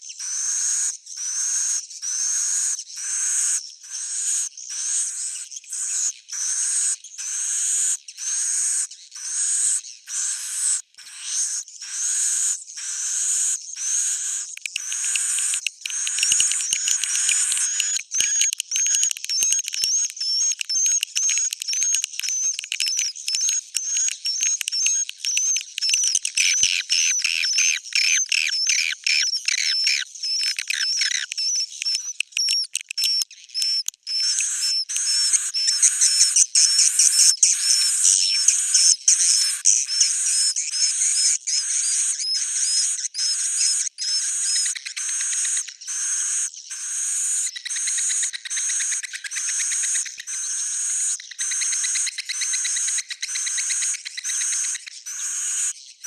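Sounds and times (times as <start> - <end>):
swiftlets twittering chirps: 3.3 - 55.8.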